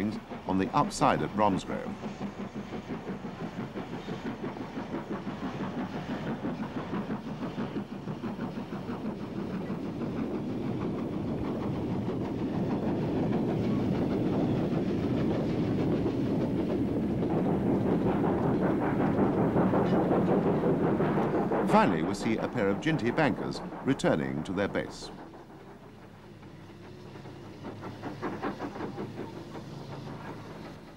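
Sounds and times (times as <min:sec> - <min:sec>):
steam engine pushing: 0:00.0 - 0:30.9.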